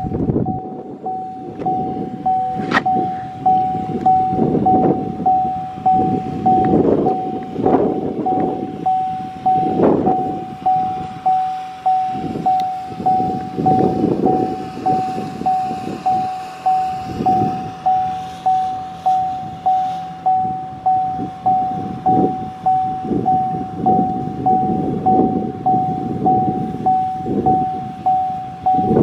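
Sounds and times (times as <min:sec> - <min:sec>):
car rumbling moving slowly: 0:00.0 - 0:29.0
car warning chime dinging: 0:00.0 - 0:29.0.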